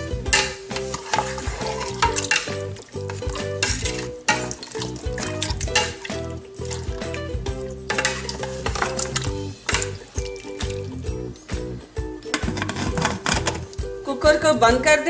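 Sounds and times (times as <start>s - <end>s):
wooden spoon scraping a metal pot: 0.0s - 11.0s, 12.2s - 13.8s
background music: 0.0s - 15.0s.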